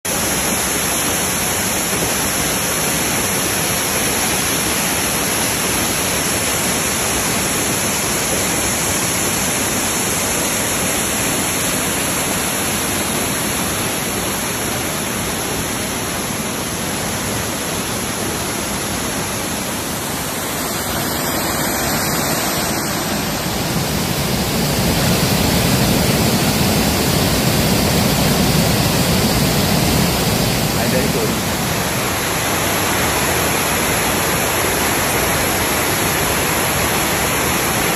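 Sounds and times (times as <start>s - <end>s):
waterfall rushing over rock: 0.1s - 37.9s.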